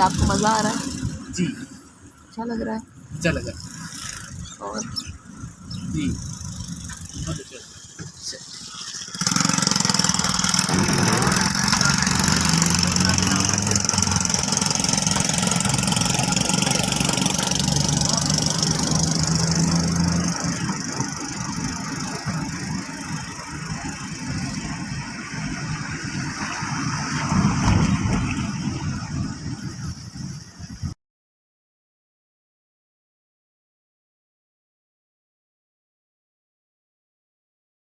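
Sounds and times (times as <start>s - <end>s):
car engine hum: 0.0s - 30.9s
road noise: 0.0s - 31.0s.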